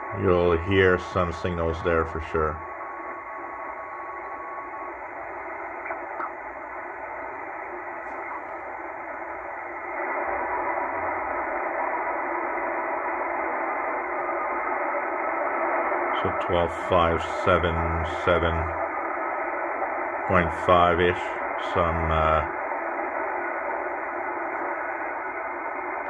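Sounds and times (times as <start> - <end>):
radio band noise hiss: 0.0 - 26.0
radio whistle: 0.0 - 26.0.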